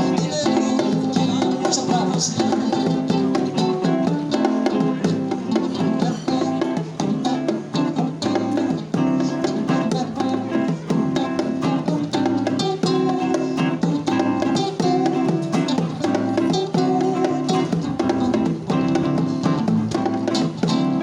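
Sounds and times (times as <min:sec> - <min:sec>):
plucked acoustic guitar playing: 0:00.0 - 0:21.0.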